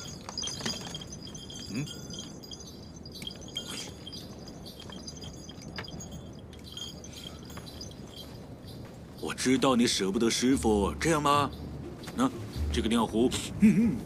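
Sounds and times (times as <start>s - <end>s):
belongings clinking and rattling: 0.0s - 13.4s
soft high chiming: 0.0s - 13.6s.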